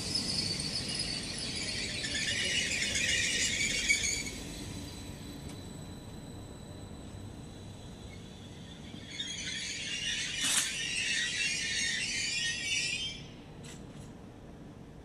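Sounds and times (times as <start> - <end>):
train wheels squealing on rails: 0.0 - 14.1
train low rumble: 0.0 - 15.0.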